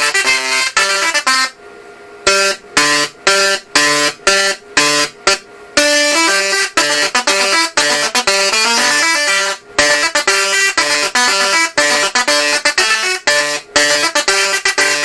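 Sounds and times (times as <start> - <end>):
tesla coil playing buzzy melody: 0.0 - 15.0.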